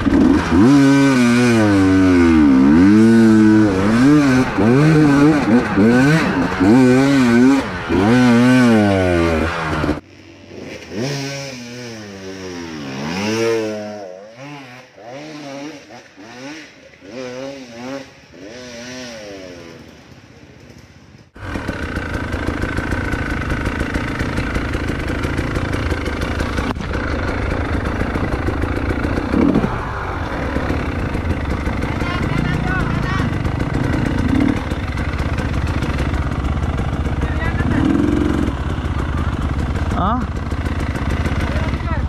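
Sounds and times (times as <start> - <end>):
motorcycle engine running close: 0.0 - 42.0
motorcycle engines revving: 0.0 - 42.0.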